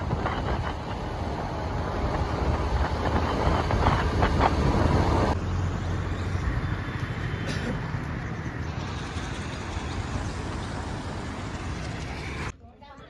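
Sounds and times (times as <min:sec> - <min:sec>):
wind gusting on microphone: 0:00.0 - 0:12.5
road noise low rumble: 0:00.0 - 0:12.6.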